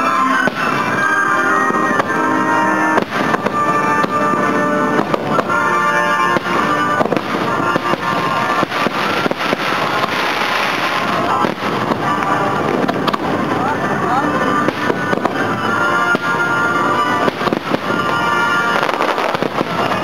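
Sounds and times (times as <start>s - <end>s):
fireworks bursting and crackling: 0.0s - 20.0s
music with sustained tones: 0.0s - 20.0s.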